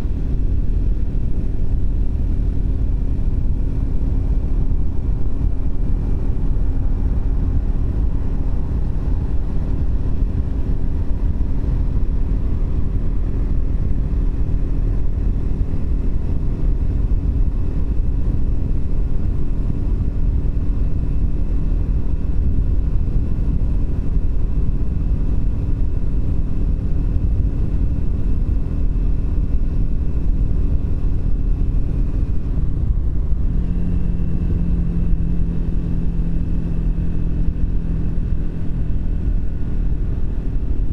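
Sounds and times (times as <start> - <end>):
motorcycle engine cruising: 0.0 - 40.9
wind noise on microphone: 0.0 - 40.9.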